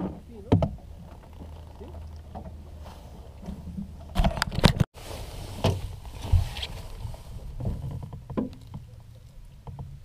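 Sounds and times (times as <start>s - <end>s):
knocks and rattles on boat: 0.0s - 4.8s, 5.5s - 10.0s.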